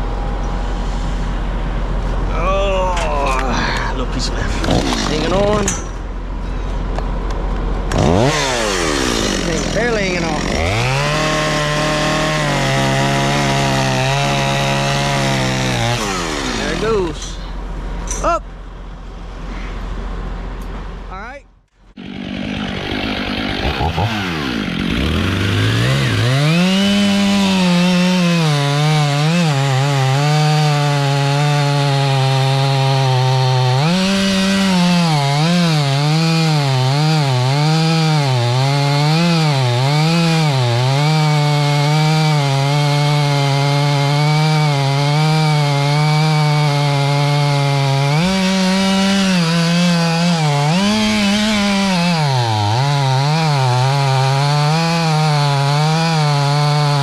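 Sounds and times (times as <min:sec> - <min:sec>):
chainsaw cutting wood: 0:04.5 - 0:06.0, 0:07.8 - 0:17.4, 0:21.9 - 0:57.0.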